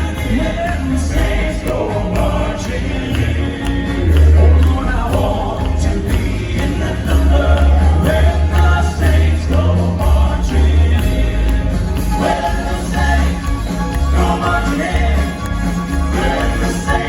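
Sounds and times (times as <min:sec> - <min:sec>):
band with pulsing bass: 0:00.0 - 0:17.0
jingling percussion: 0:00.0 - 0:17.0
male vocal group singing gospel: 0:00.0 - 0:17.0.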